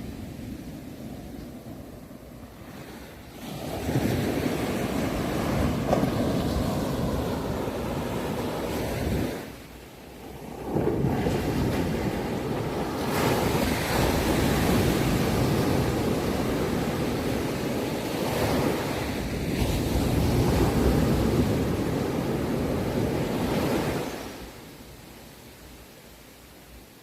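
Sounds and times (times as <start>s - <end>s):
ocean wave breaking and washing: 0.0s - 27.0s.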